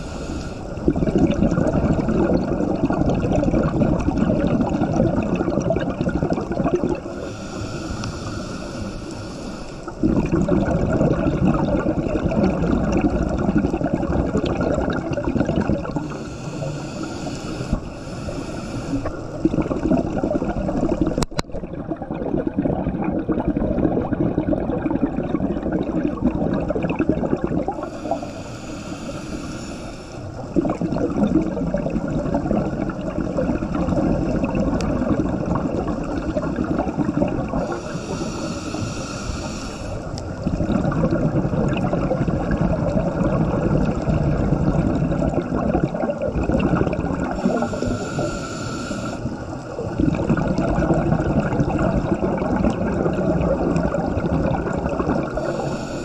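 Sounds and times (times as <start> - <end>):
water gurgling and churning: 0.0 - 56.0.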